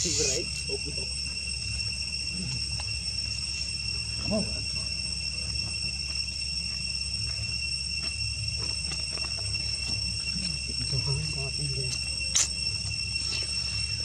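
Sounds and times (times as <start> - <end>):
crickets trilling: 0.0 - 14.0
low hum: 0.0 - 14.0.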